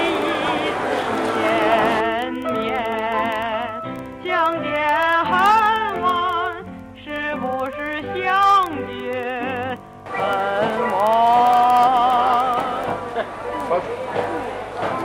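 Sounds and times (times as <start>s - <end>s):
music with singing voice: 1.1s - 13.2s.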